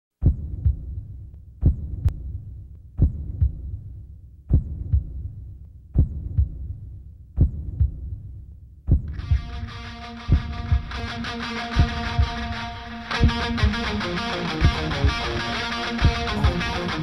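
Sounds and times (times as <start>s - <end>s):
heartbeat thumps: 0.2s - 17.0s.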